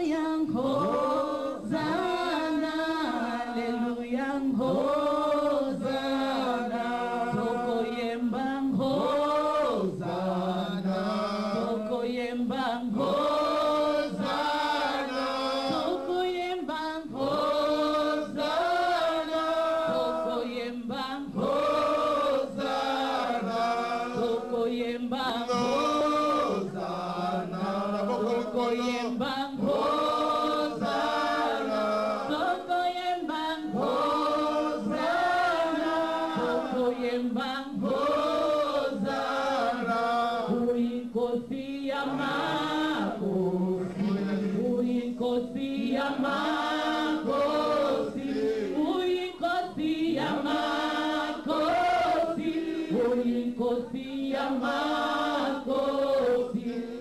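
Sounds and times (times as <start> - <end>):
group singing a praise chant: 0.0 - 57.0.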